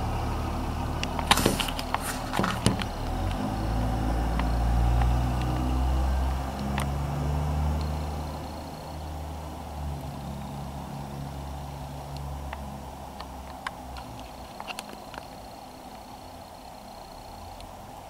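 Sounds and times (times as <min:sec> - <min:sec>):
low mechanical rumble: 0:00.0 - 0:18.0.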